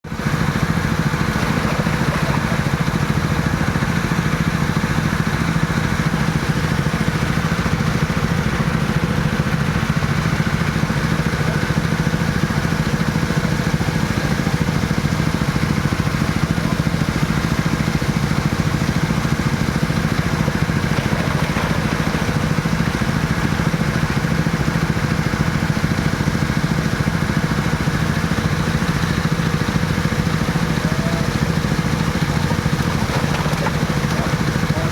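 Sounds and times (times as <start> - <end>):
vehicle engine idling: 0.1 - 34.9.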